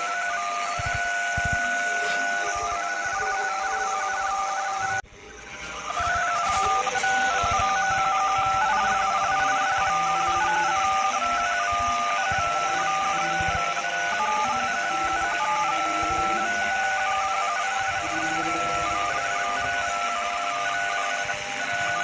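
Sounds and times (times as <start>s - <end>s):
static hiss: 0.0s - 22.0s.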